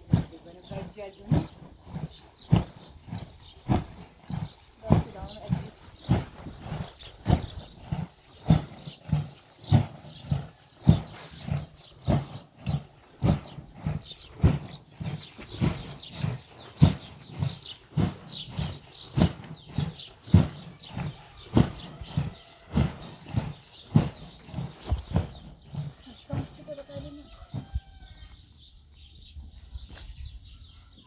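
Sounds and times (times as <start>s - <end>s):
milk churn rhythmic thuds: 0.0s - 31.0s.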